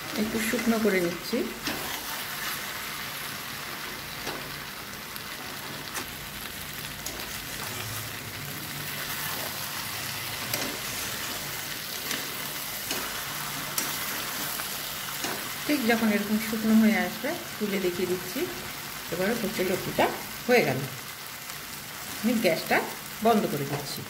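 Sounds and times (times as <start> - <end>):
curry sizzling in oil: 0.0 - 24.0.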